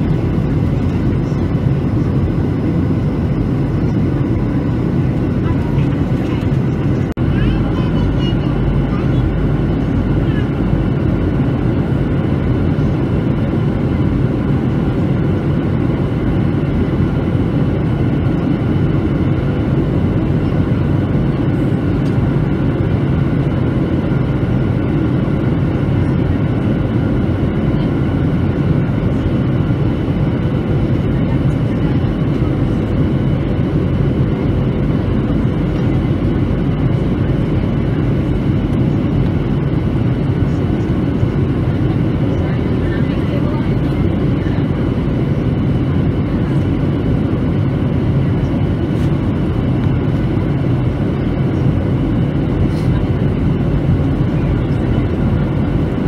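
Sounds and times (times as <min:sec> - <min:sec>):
airliner cabin engine noise: 0:00.0 - 0:56.0.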